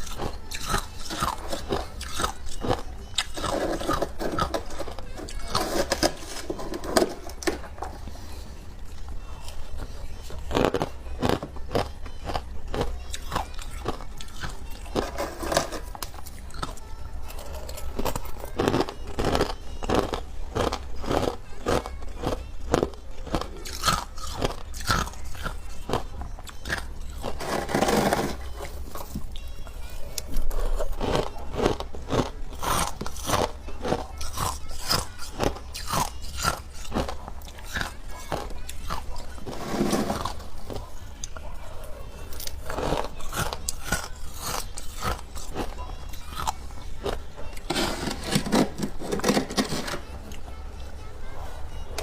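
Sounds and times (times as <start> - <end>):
person chewing crunchy food: 0.0 - 7.4, 9.4 - 29.4, 30.1 - 49.4.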